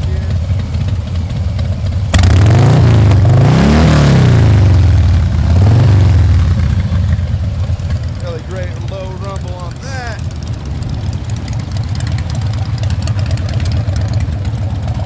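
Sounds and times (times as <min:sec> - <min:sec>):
motorcycle engine revving: 0:00.0 - 0:15.0
other motorcycles idling: 0:00.0 - 0:15.0.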